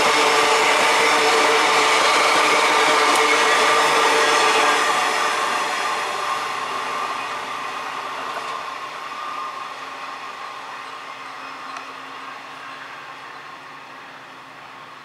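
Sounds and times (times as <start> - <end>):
train rushing past on rails: 0.0 - 15.0.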